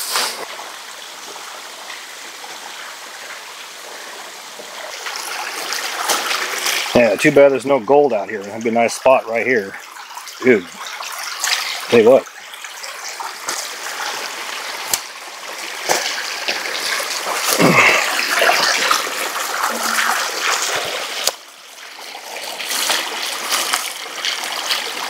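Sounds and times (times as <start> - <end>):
creek water trickling: 0.4 - 25.0.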